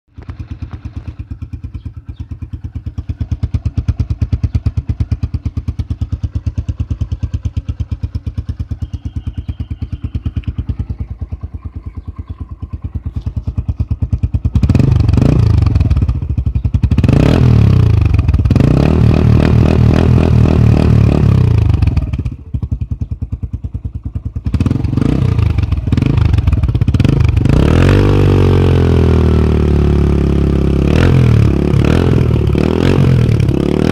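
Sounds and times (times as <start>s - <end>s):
motorcycle engine idling and revving: 0.1s - 33.9s.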